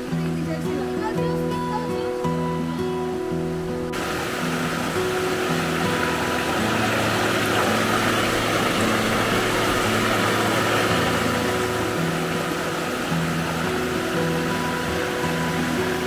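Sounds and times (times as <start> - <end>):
music of held notes: 0.0 - 16.0
river water rushing over rocks: 0.0 - 16.0.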